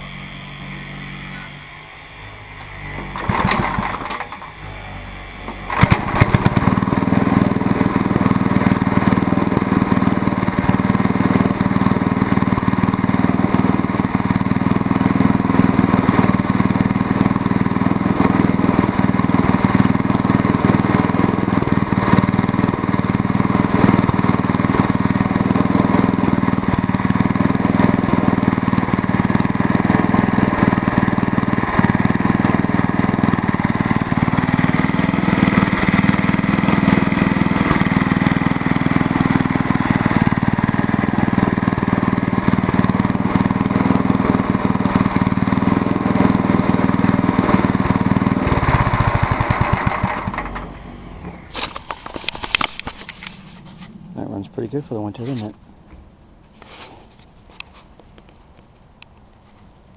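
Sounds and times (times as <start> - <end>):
snowblower engine running: 0.0 - 58.4.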